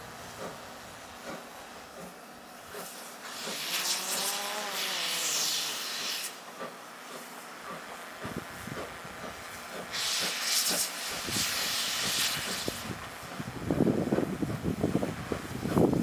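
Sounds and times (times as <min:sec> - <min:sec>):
steam locomotive steam hiss: 0:00.0 - 0:16.0
train running: 0:00.0 - 0:16.0.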